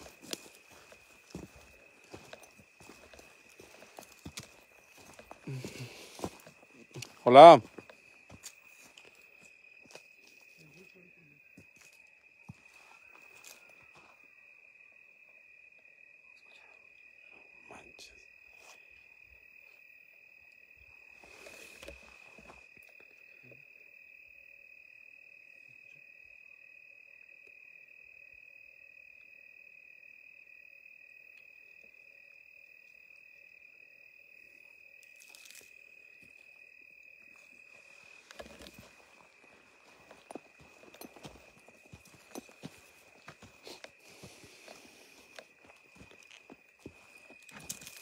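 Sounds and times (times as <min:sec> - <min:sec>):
crickets trilling: 0:00.0 - 0:48.0.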